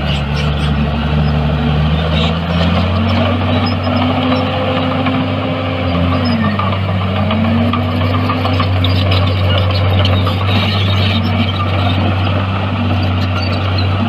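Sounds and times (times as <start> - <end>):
heavy machine diesel engine running: 0.0 - 14.0.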